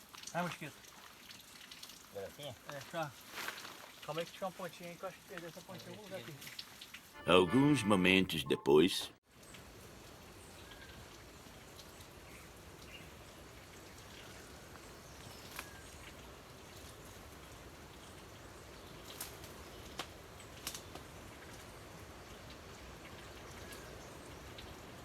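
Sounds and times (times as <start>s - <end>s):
faint outdoor background noise: 0.0s - 25.0s.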